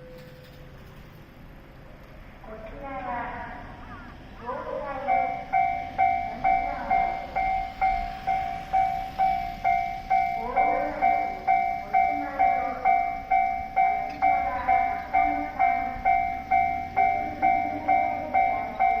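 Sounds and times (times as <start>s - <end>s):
level crossing warning bell: 0.0s - 1.2s, 4.4s - 19.0s.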